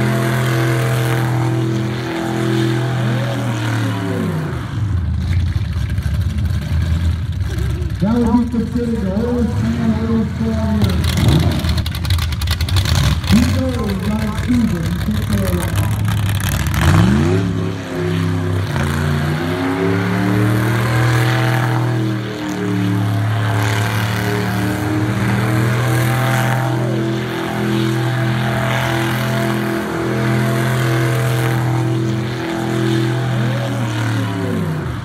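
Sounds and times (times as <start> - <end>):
engine revving high: 0.0 - 5.0, 7.4 - 12.0, 12.6 - 35.0.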